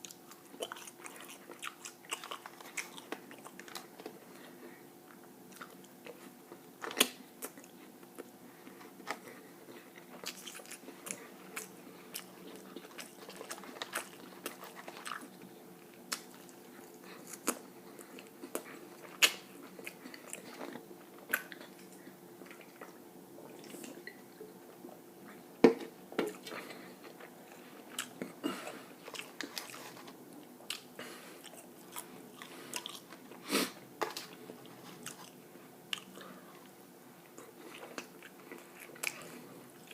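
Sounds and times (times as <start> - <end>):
faint steady hum: 0.0 - 39.9
person chewing food: 0.0 - 39.9.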